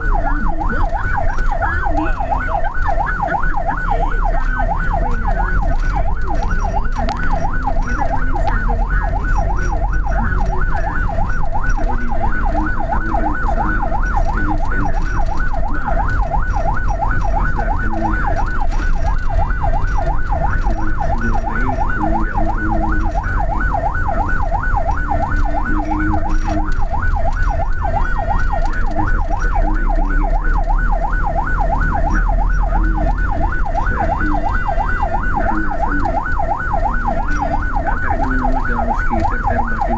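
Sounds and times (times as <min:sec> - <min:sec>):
ambulance siren yelping: 0:00.0 - 0:39.9
low engine and road rumble: 0:00.0 - 0:39.9.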